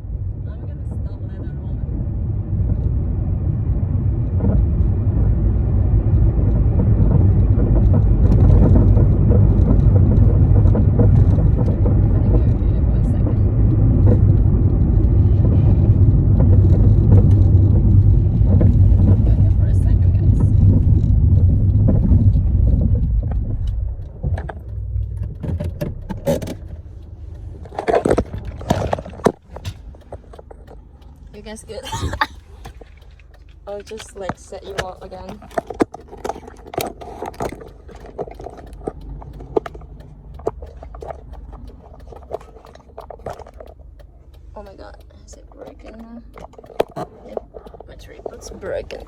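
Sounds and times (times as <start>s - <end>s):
car engine and tyres rumbling: 0.0s - 49.0s
sharp clicks and rattles: 0.0s - 49.0s.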